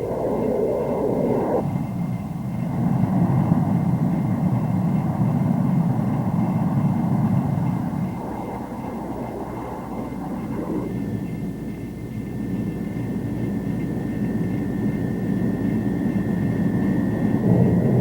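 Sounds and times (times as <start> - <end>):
aircraft engine and air rushing: 0.0 - 18.0.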